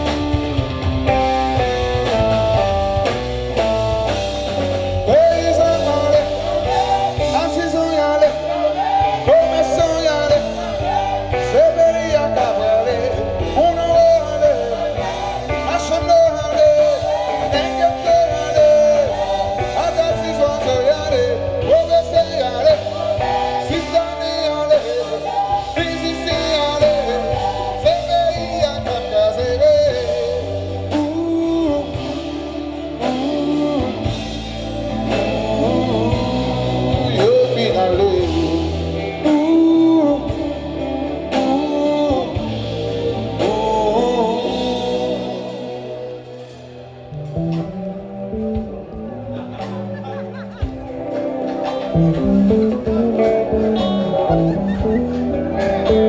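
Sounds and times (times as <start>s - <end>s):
bending lead melody: 0.0s - 56.0s
guitar: 0.0s - 56.0s
steady bass line: 0.0s - 56.0s.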